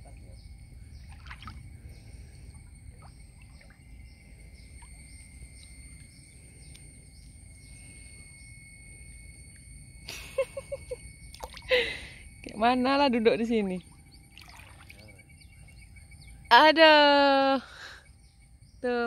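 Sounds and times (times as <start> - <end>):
steady thin high whine: 0.0 - 19.0.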